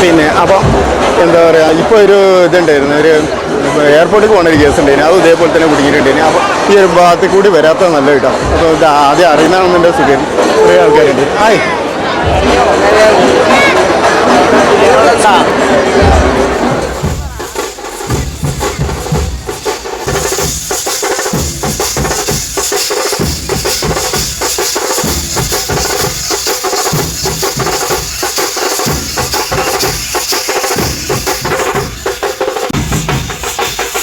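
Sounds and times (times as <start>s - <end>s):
drum-led percussion music: 0.0s - 7.0s, 7.6s - 34.0s.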